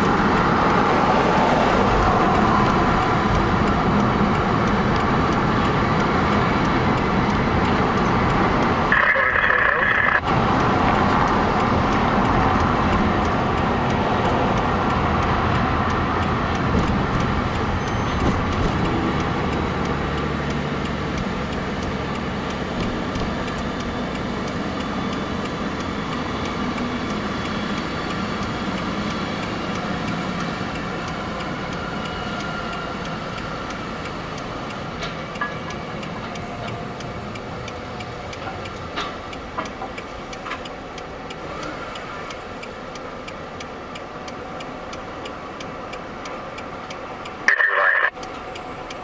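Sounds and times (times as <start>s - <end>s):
road noise: 0.0s - 49.0s
truck engine rumble: 0.0s - 49.0s.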